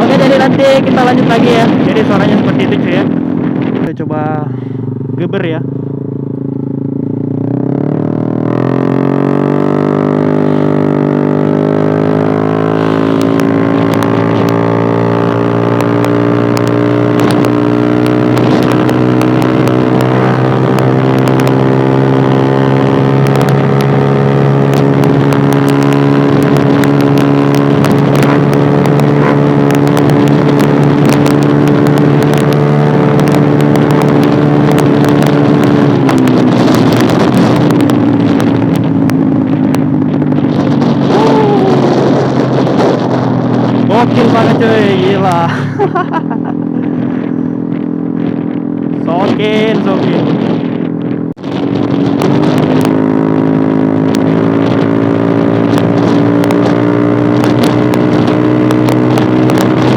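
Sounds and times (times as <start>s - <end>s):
scooter engine at high revs: 0.0s - 59.9s.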